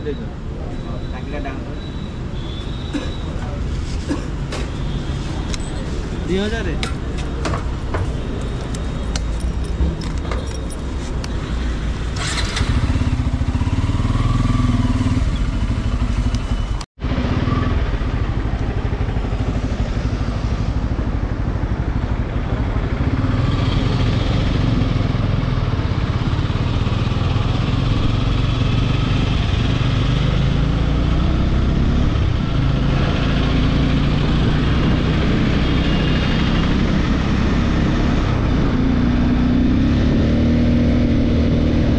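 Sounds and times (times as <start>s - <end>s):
motorcycle engine on the move: 0.0s - 41.9s.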